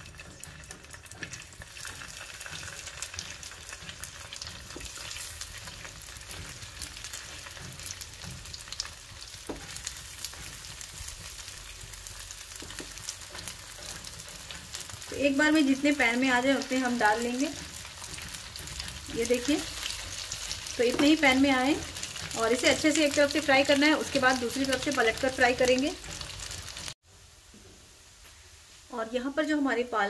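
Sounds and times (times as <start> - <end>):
frying in hot oil sizzling: 0.0 - 30.0.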